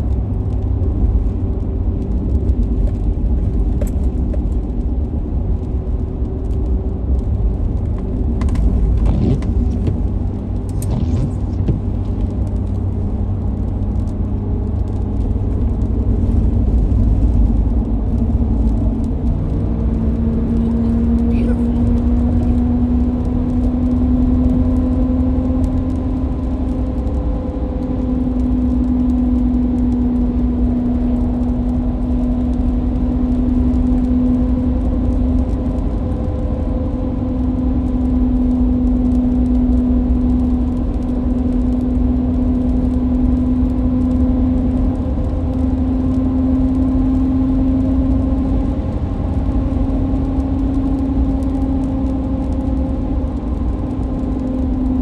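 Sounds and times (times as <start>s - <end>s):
car interior droning hum: 0.0s - 55.0s
road rumble: 0.0s - 55.0s.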